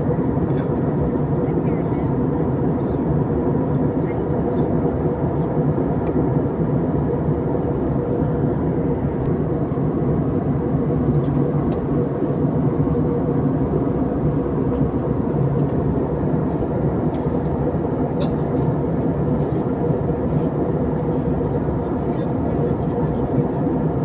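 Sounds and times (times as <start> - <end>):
jet airliner cabin noise: 0.0 - 24.0.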